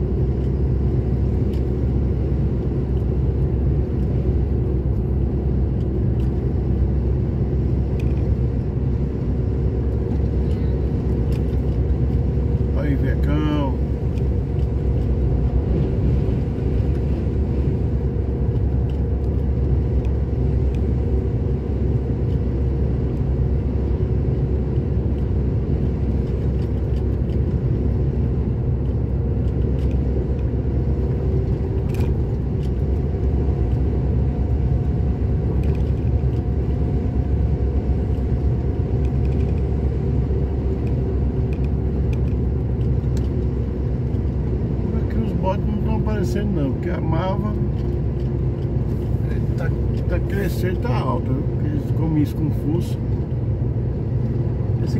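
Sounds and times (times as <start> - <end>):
steady low hum: 0.0 - 54.9
vehicle engine and tyre rumble: 0.0 - 54.9.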